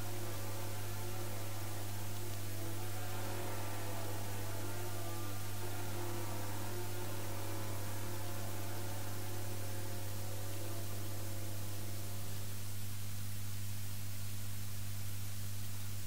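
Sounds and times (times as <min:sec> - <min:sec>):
electrical hum and hiss: 0:00.0 - 0:16.0.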